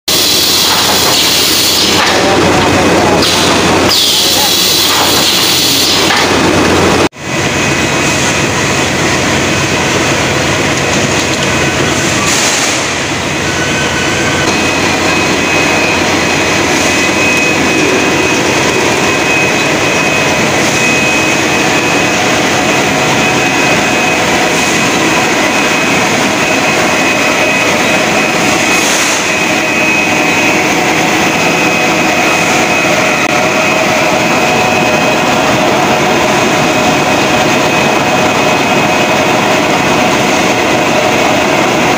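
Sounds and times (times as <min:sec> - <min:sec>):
bottling machinery running: 0:00.1 - 0:41.9
conveyor carrying bottles: 0:00.1 - 0:41.9
thin high whine: 0:00.1 - 0:41.9.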